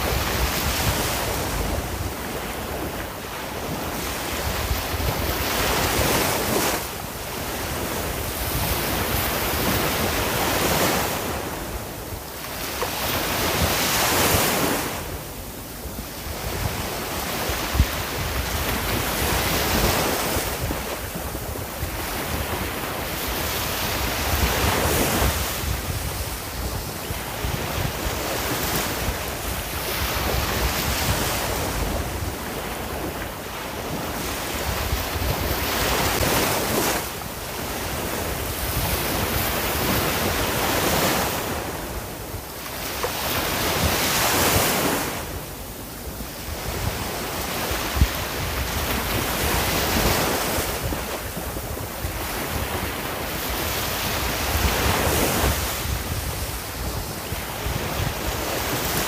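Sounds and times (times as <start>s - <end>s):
ocean waves breaking: 0.0s - 59.0s
wind noise on microphone: 0.0s - 59.0s.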